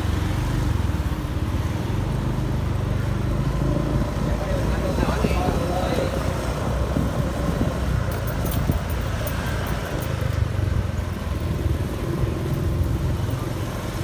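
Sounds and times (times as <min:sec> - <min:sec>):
traffic rumble and road noise: 0:00.0 - 0:14.0.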